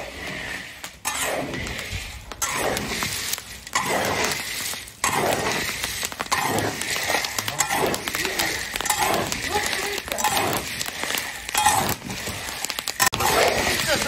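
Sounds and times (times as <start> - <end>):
shells crackling open: 1.7 - 14.0.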